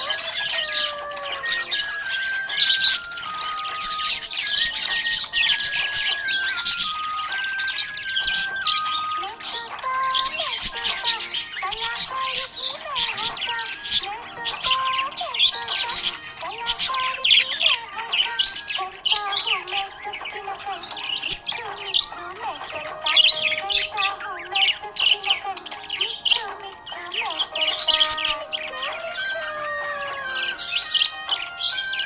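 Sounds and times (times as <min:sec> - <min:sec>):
budgerigar chirping: 0:00.0 - 0:32.0.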